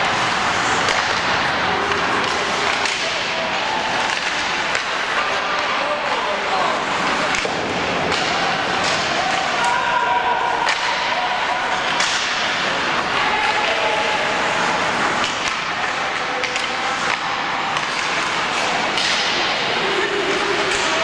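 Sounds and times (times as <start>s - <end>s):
hockey sticks and puck clacking: 0.0s - 21.0s.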